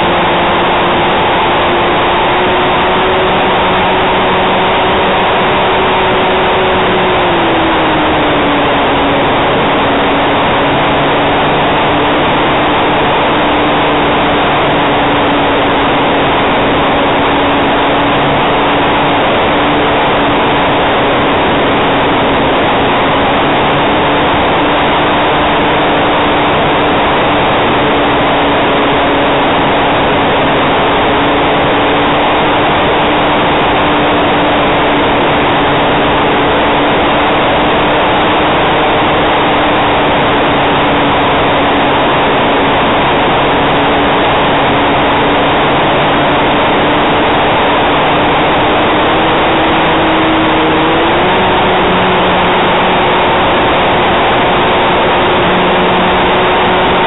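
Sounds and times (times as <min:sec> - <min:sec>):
model plane electric motor: 0:00.0 - 0:57.0
wind rush on microphone: 0:00.0 - 0:57.0.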